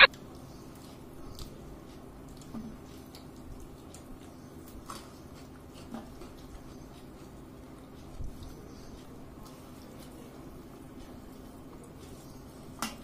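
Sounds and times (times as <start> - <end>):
faint eating clicks: 0.0 - 13.0.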